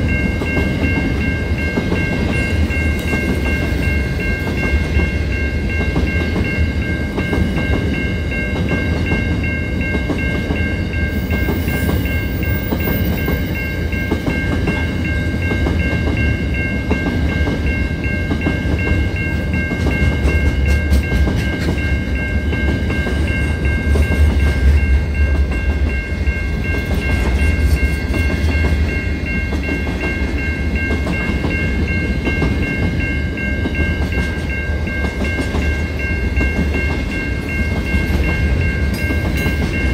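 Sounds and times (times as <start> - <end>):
freight train rumbling past: 0.0 - 39.9
level crossing warning bell: 0.0 - 39.9.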